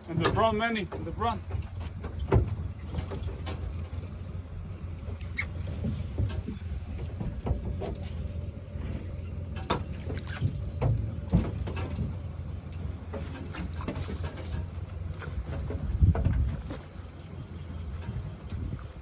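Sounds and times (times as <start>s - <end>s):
boat engine low rumble: 0.0s - 19.0s
water splashing against hull: 0.0s - 19.0s.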